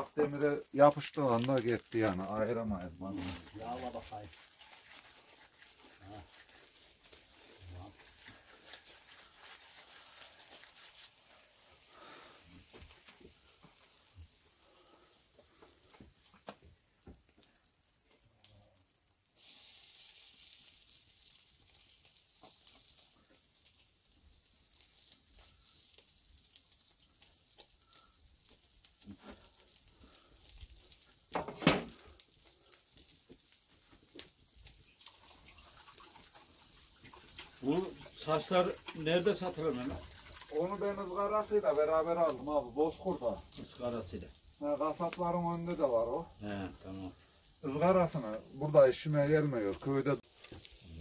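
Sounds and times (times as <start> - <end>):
fish sizzling on a grill: 0.0 - 51.0.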